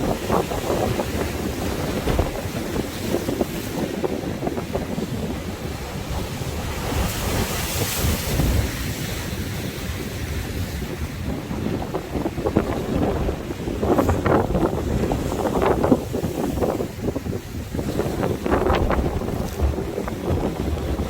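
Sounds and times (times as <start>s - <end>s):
sea waves breaking: 0.0s - 21.0s
wind buffeting microphone: 0.0s - 21.0s.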